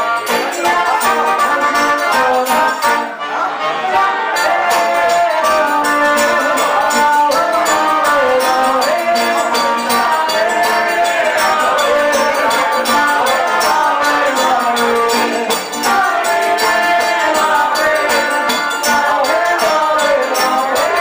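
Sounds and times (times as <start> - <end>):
hand percussion: 0.0 - 3.1, 4.3 - 21.0
accordion melody: 0.0 - 21.0
guitar: 0.0 - 21.0.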